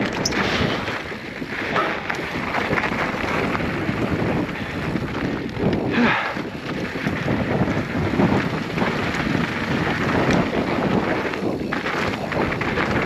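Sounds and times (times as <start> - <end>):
bike rattling and knocking: 0.0 - 13.0
tyres crunching over rocks: 0.0 - 13.0
wind buffeting microphone: 0.0 - 13.0.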